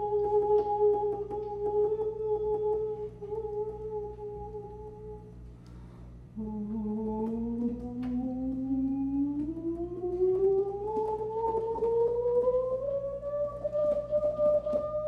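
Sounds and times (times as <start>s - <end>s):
saxophone sustained tones: 0.0s - 5.4s, 6.4s - 15.0s.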